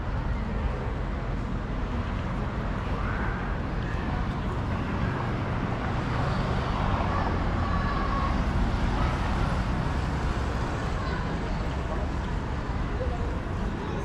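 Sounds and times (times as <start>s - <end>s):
distant voices: 0.0s - 14.0s
road traffic rumble: 0.0s - 14.0s.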